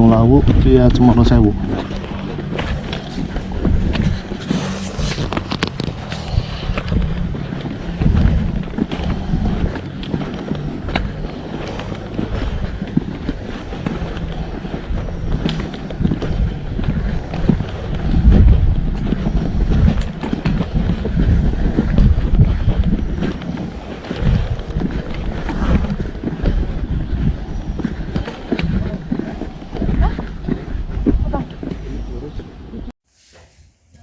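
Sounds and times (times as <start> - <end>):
footsteps on trail: 0.0 - 34.0
wind rumbling on microphone: 0.0 - 34.0.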